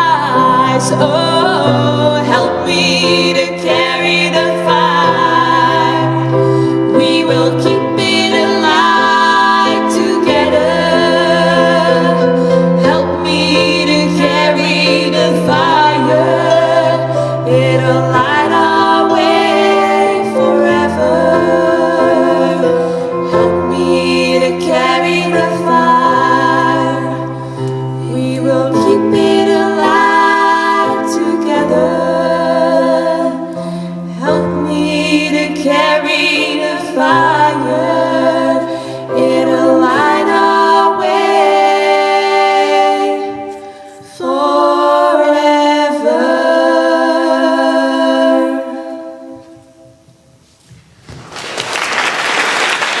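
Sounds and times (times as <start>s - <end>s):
voices singing in harmony: 0.0s - 50.2s.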